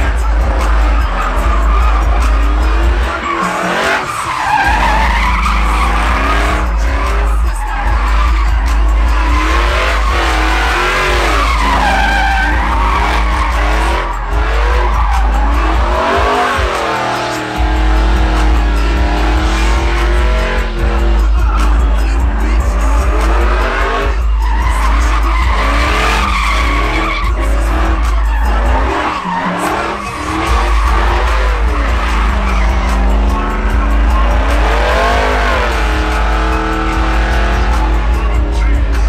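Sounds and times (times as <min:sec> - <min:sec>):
engine revving: 0:00.0 - 0:39.0
tyres squealing: 0:00.0 - 0:39.0.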